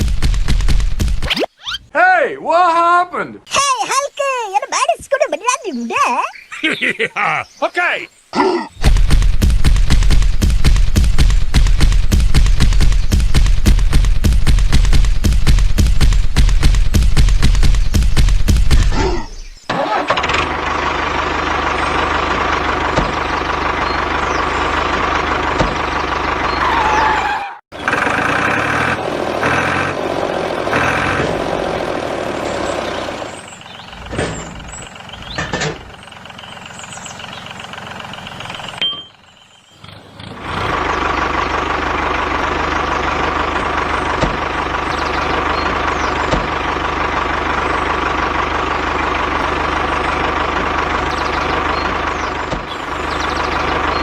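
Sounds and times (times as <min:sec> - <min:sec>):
tractor engine running: 0:00.0 - 0:01.3, 0:08.8 - 0:54.0.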